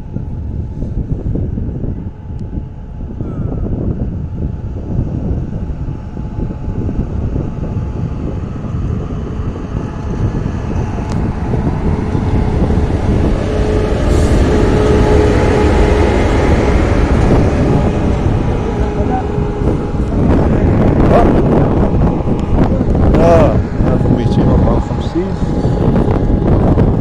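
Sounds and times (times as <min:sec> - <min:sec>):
electric locomotive rumbling on rails: 0:00.0 - 0:27.0
steady locomotive hum: 0:00.0 - 0:27.0.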